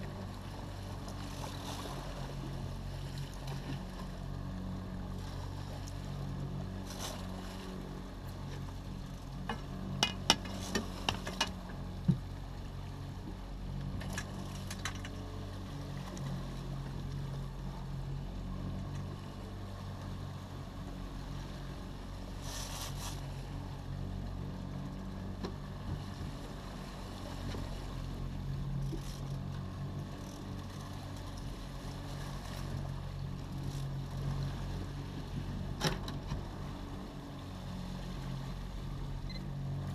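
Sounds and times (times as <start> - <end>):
outboard motor humming: 0.0 - 39.9.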